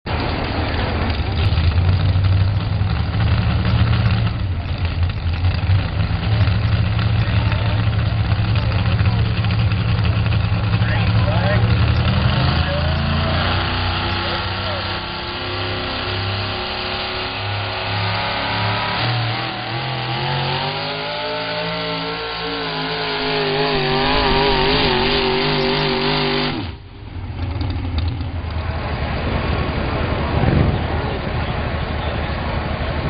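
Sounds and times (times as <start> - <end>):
truck engine at full throttle: 0.0 - 33.0
low rough engine rumble: 0.1 - 33.0.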